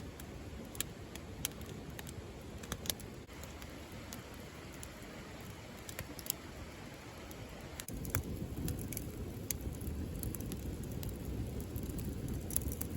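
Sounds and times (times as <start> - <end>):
campfire crackling and popping: 0.0 - 12.9
low fire rumble: 0.0 - 12.9.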